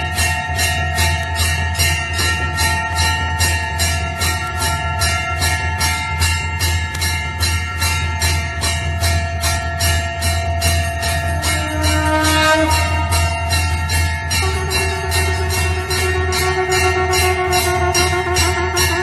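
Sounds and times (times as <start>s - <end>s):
temple bell ringing: 0.0s - 19.0s.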